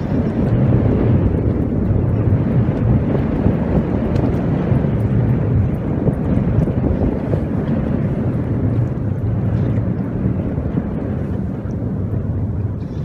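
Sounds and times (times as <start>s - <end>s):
boat engine rumbling: 0.0s - 13.0s
wind buffeting microphone: 0.0s - 13.0s.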